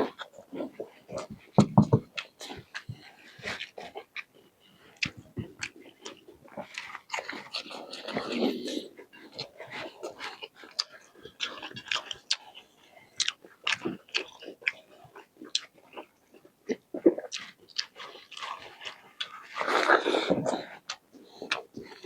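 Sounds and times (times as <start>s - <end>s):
biting and chewing: 0.0s - 22.0s.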